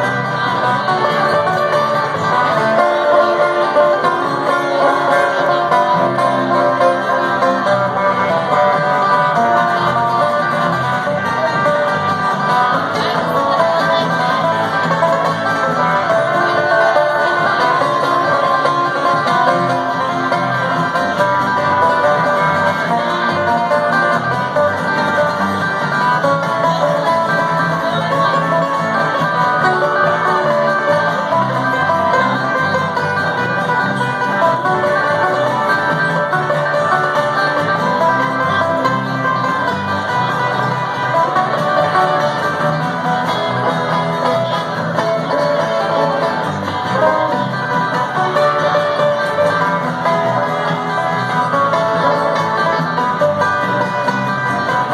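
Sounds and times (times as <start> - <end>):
banjo picking: 0.0 - 54.9
bluegrass band playing: 0.0 - 54.9.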